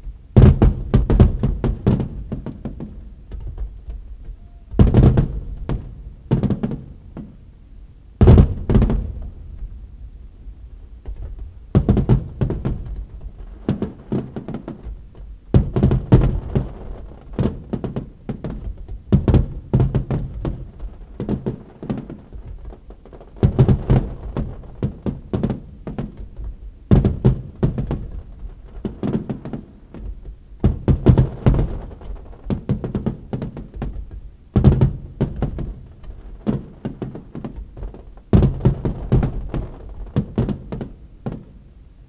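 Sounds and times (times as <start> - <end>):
fireworks bursting: 0.0 - 7.5, 8.2 - 41.8.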